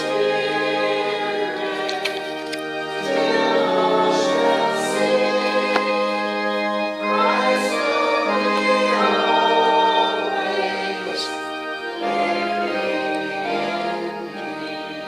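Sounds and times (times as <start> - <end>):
organ chords: 0.0 - 15.0
voices singing a hymn: 0.0 - 15.0.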